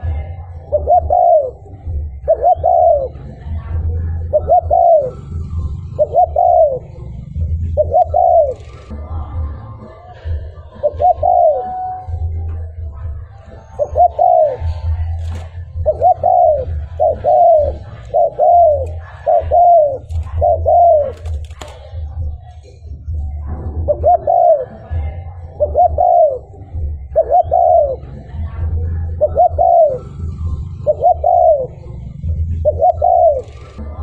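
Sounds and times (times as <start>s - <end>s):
dove cooing: 0.0s - 34.0s.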